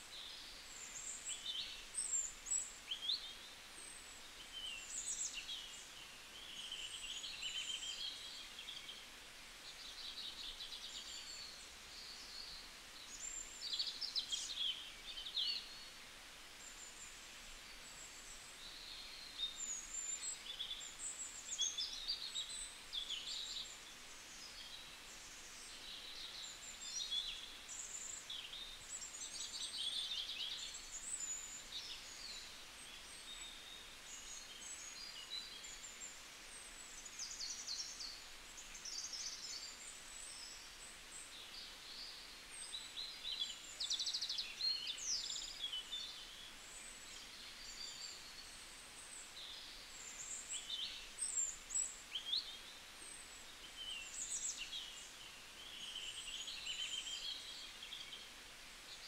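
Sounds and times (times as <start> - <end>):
faint steady hiss: 0.0 - 59.0
small birds chirping: 0.0 - 59.0.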